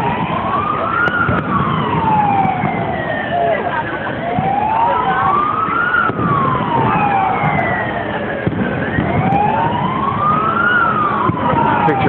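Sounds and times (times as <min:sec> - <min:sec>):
emergency vehicle siren wailing: 0:00.0 - 0:12.0
street and crowd noise: 0:00.0 - 0:12.0.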